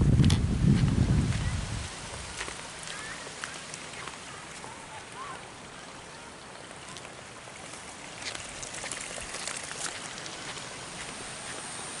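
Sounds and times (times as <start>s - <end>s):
running water splashing: 1.1s - 12.0s
sharp drips and splashes: 1.3s - 12.0s.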